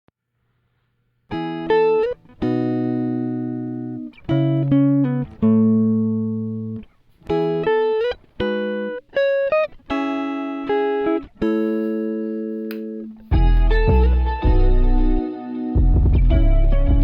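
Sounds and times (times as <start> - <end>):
solo guitar plucking: 1.3 - 17.0.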